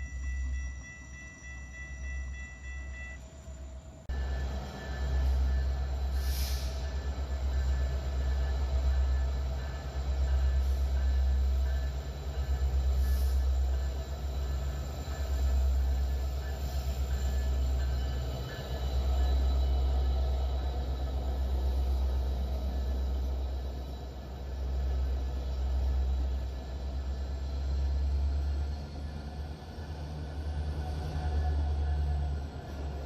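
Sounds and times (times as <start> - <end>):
train rumble: 0.0 - 33.0
wheels squealing on rails: 0.0 - 33.0.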